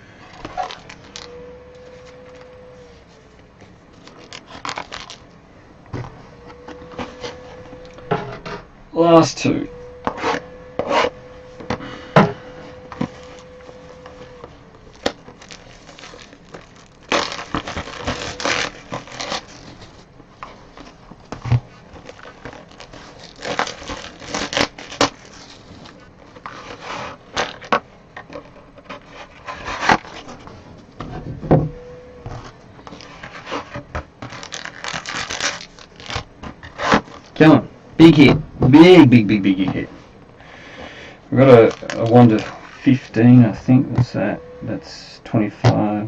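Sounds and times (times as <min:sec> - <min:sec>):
packaging scraping and rustling: 0:00.0 - 0:05.4, 0:06.0 - 0:44.6.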